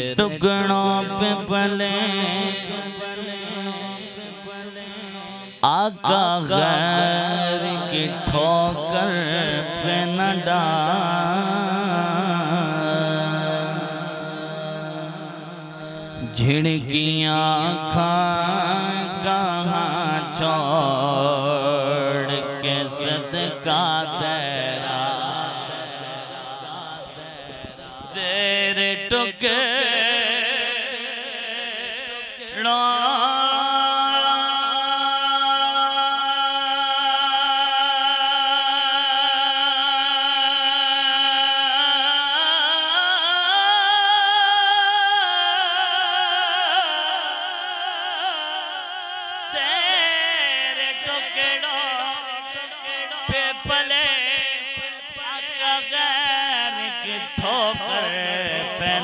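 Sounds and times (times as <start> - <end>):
man singing devotional verse: 0.0 - 59.0.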